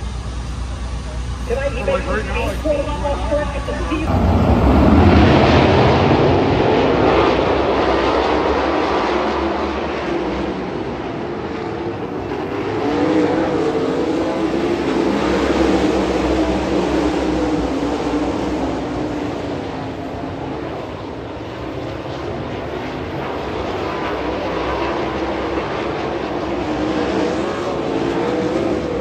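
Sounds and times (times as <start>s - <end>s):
race car engines running hard: 0.0s - 29.0s.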